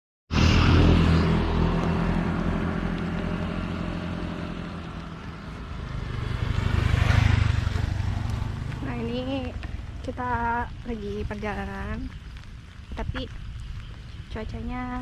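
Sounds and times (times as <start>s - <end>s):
vehicle engine running: 0.3s - 15.0s.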